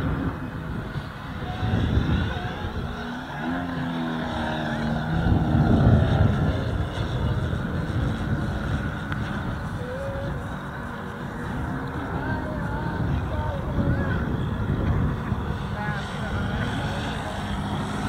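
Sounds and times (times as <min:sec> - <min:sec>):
model jet flying past: 0:00.0 - 0:18.0.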